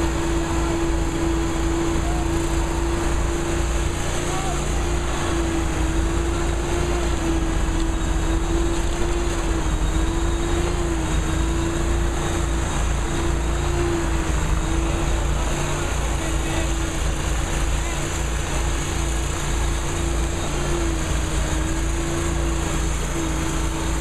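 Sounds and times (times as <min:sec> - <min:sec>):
riding lawn mower engine: 0:00.0 - 0:24.0.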